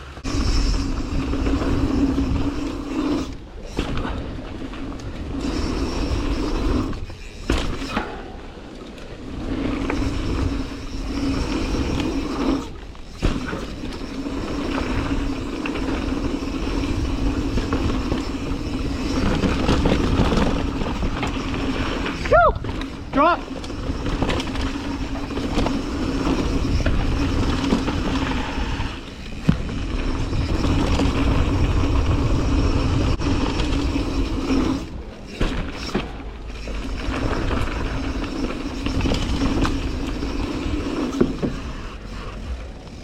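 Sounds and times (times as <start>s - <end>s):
bike tyres rolling on dirt trail: 0.0s - 43.0s.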